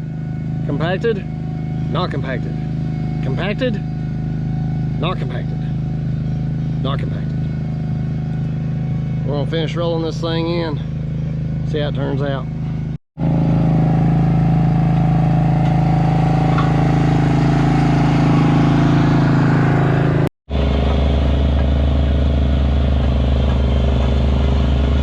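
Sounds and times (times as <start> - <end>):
roller engine running: 0.0 - 25.0.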